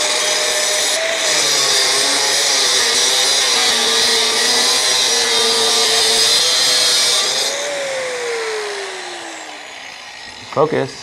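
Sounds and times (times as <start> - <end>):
angle grinder cutting steel: 0.0 - 11.0
grinder motor whine: 0.0 - 11.0.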